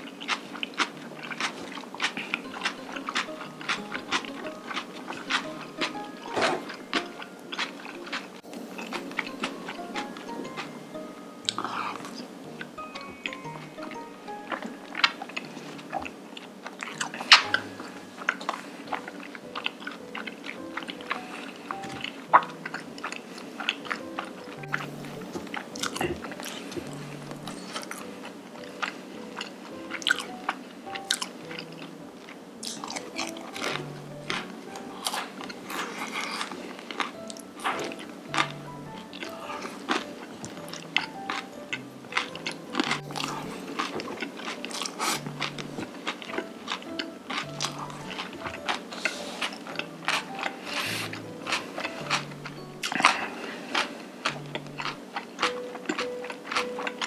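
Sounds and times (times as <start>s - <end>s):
crunchy food chewing: 0.0s - 57.0s
soft background music: 0.0s - 57.0s.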